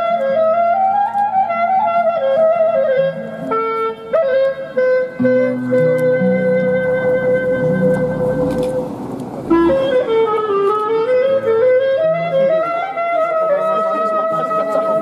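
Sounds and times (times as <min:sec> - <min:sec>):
woodwind melody: 0:00.0 - 0:15.0.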